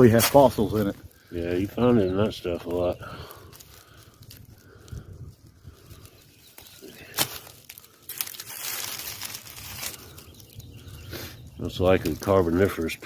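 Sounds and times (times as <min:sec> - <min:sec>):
loose rock crunching and scraping: 0:00.0 - 0:13.0.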